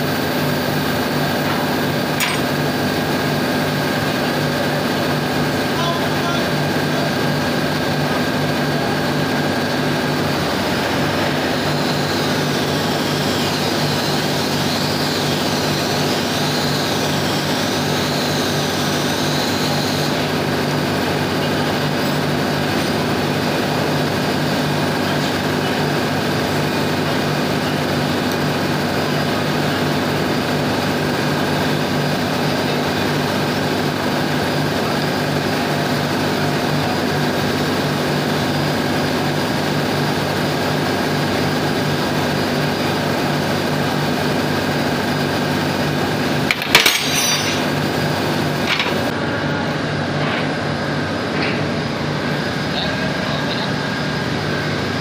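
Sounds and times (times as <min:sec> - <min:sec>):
engine-room machinery humming: 0:00.0 - 0:55.0.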